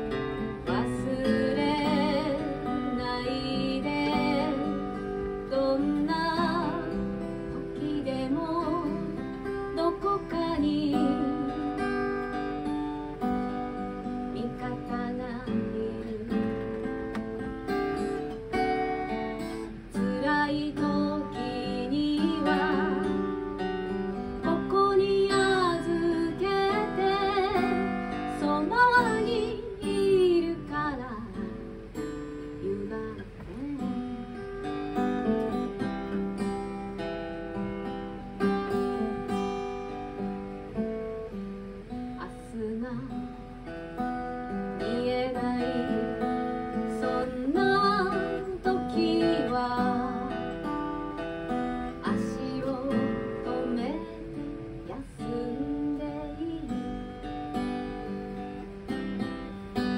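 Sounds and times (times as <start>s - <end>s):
strummed acoustic guitar: 0.0s - 59.9s
woman singing: 0.0s - 59.9s.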